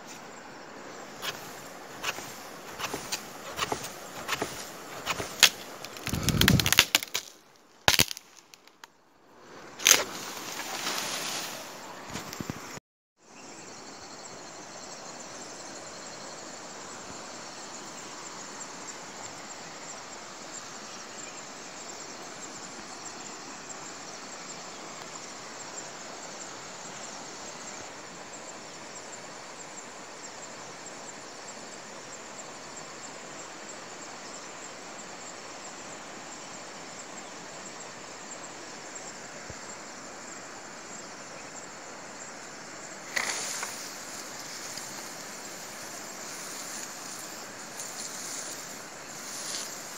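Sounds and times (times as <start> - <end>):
background hiss: 0.0 - 49.9
insects chirring: 0.0 - 49.9.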